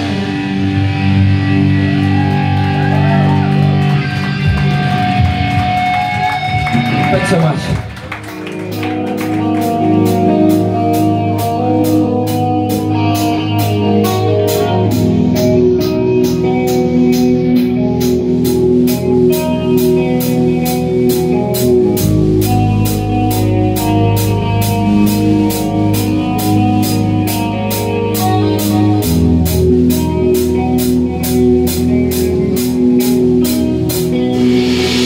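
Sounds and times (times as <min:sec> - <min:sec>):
bass guitar notes: 0:00.0 - 0:35.0
drum kit beat: 0:00.0 - 0:35.0
electric guitar: 0:00.0 - 0:35.0.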